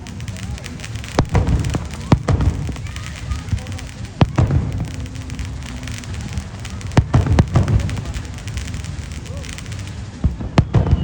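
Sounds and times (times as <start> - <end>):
fireworks crackling and rumbling: 0.0 - 11.0
fireworks sharp bangs: 0.0 - 11.0.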